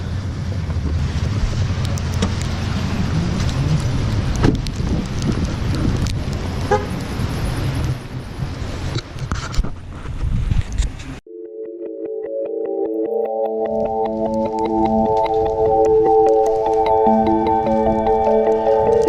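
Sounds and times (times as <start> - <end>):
traffic rumble: 0.0 - 11.2, 13.7 - 19.0
wind: 0.0 - 11.3, 13.6 - 19.0.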